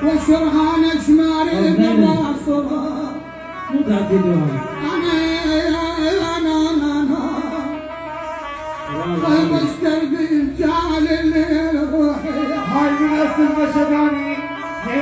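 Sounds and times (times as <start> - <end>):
amplified music: 0.0 - 15.0.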